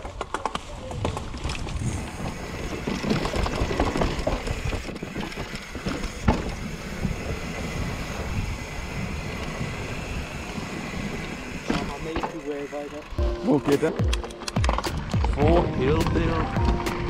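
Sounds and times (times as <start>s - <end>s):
bike tyres crunching over dirt: 0.0s - 14.0s
bike chain and frame rattling: 0.0s - 14.9s.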